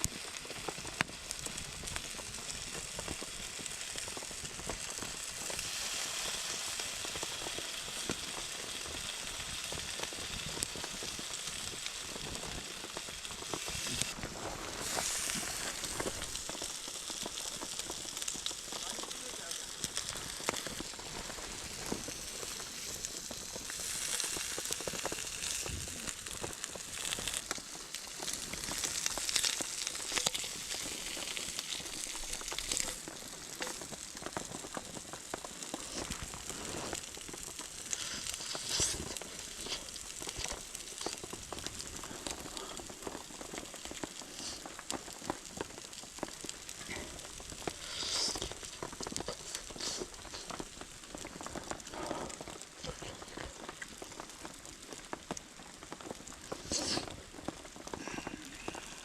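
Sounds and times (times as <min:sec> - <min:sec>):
bacon sizzling and crackling: 0:00.0 - 0:59.0.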